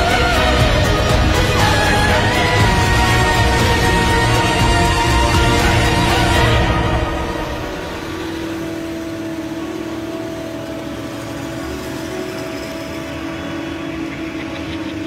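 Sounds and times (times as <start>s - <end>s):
trucks running: 0.0s - 15.0s.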